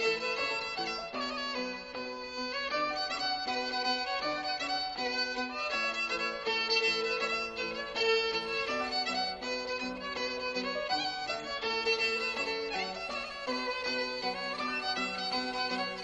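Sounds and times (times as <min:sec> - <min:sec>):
fiddle tune: 0:00.0 - 0:16.0.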